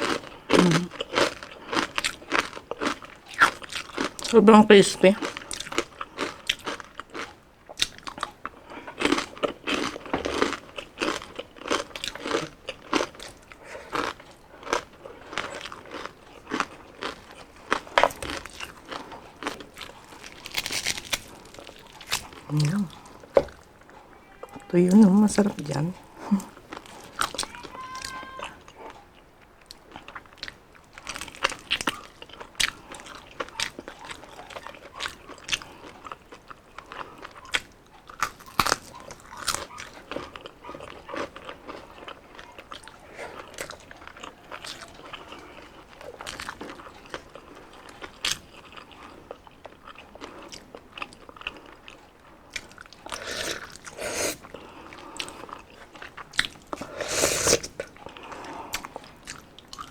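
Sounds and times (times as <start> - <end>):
person crunching crispy food: 0.0 - 4.4, 5.2 - 23.7, 26.2 - 29.0, 29.7 - 59.9.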